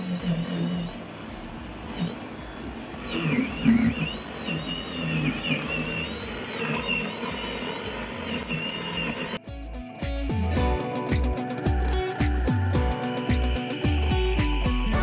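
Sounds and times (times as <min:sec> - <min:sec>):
electric scarifier whining: 0:00.0 - 0:15.0.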